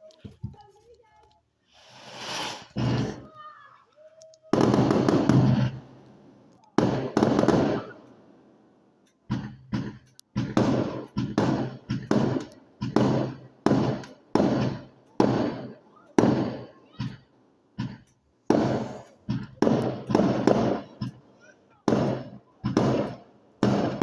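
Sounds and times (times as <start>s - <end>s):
fireworks bangs: 1.7s - 3.8s, 4.4s - 24.0s.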